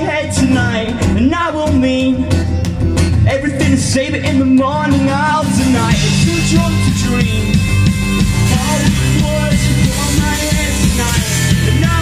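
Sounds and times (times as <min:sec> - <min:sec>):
drums and bass: 0:00.0 - 0:12.0
person singing: 0:00.0 - 0:12.0
punk rock band playing: 0:00.0 - 0:12.0.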